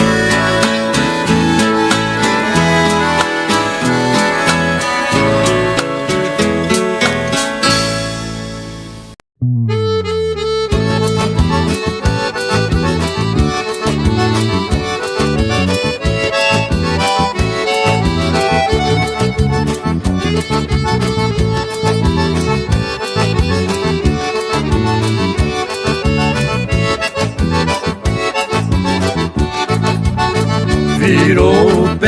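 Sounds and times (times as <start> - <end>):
accordion music with steady beat: 0.0 - 32.0.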